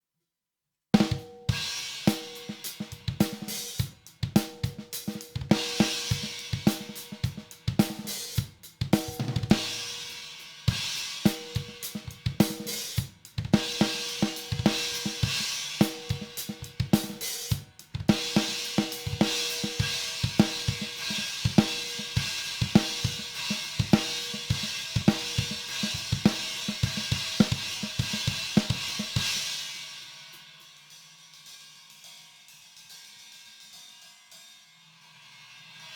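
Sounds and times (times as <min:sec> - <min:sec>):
drum kit playing: 0:01.0 - 0:30.4.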